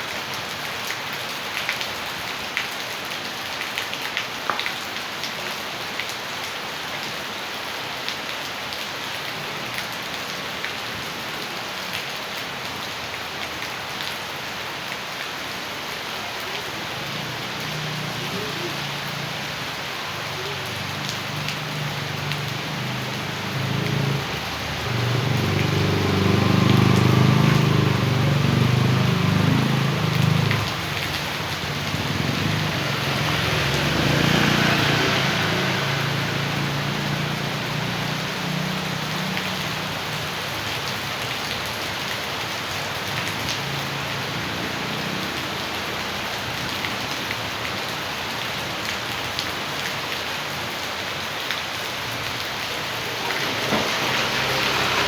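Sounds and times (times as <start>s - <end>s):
rain falling: 0.0s - 55.0s
rainwater runoff rushing: 0.0s - 55.0s.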